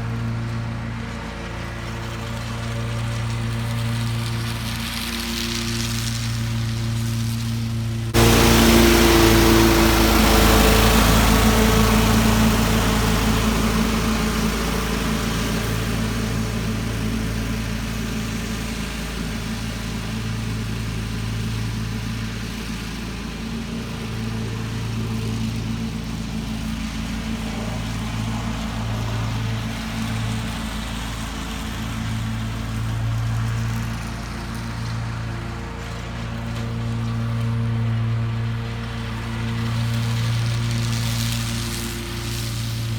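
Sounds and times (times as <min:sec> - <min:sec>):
engine running with hiss: 0:00.0 - 0:42.9.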